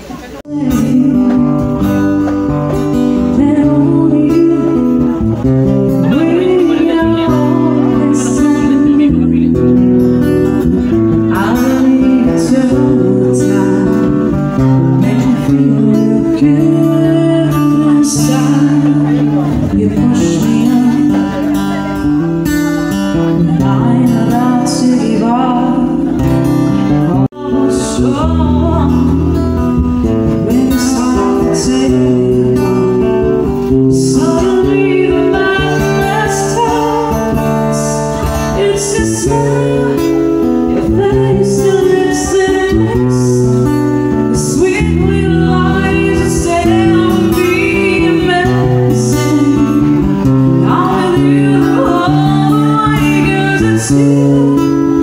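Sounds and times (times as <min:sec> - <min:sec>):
person singing: 0:00.0 - 0:55.0
strummed acoustic guitar: 0:00.0 - 0:55.0
low bass notes: 0:00.4 - 0:55.0.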